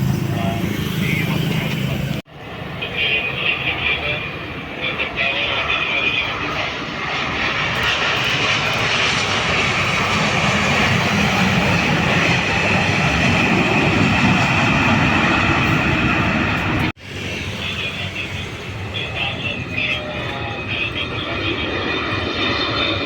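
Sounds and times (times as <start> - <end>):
jet airliner engines roaring: 0.0 - 23.0.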